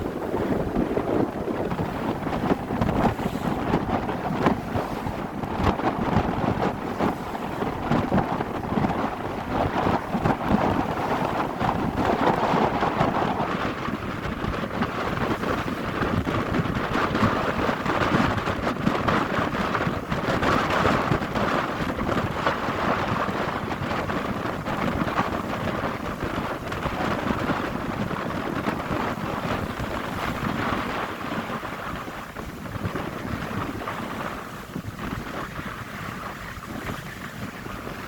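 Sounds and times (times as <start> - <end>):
boat engine and water rushing: 0.0 - 38.0
wind buffeting microphone: 0.0 - 38.0.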